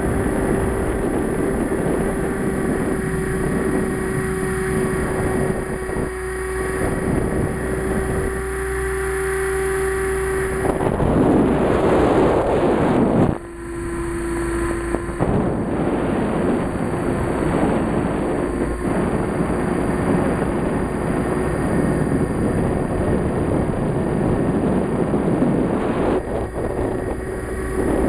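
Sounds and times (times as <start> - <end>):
rc helicopter motor and rotors whine: 0.0 - 28.0.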